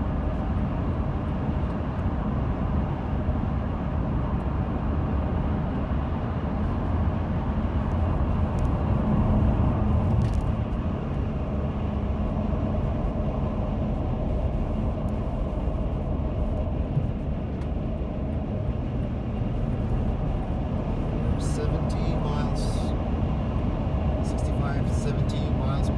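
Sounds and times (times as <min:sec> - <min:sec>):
road noise: 0:00.0 - 0:25.9
wind rushing in car cabin: 0:00.0 - 0:25.9.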